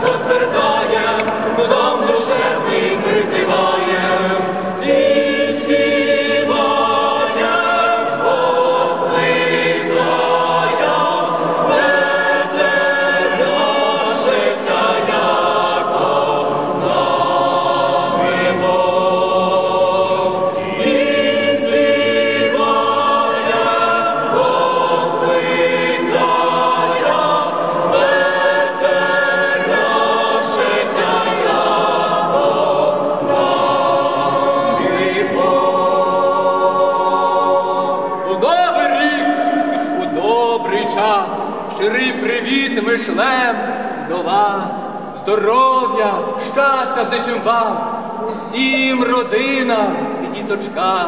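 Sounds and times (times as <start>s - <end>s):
mixed choir singing a cappella: 0.0s - 51.0s.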